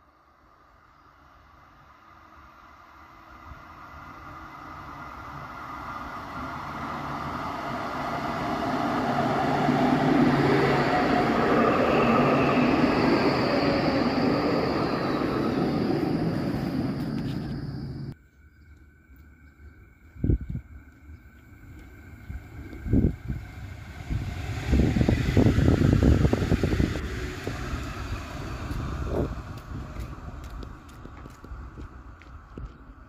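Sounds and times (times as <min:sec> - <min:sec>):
tram passing on rails: 0:00.0 - 0:18.2, 0:19.0 - 0:33.0.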